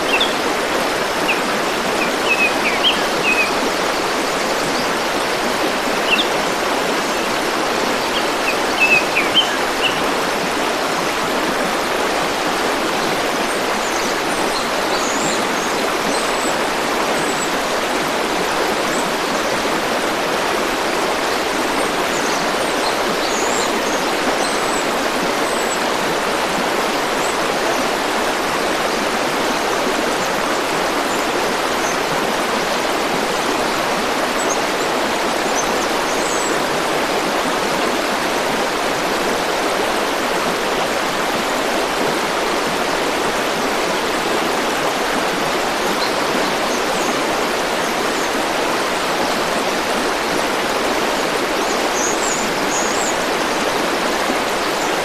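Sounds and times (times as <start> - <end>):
river stream rushing: 0.0 - 55.0.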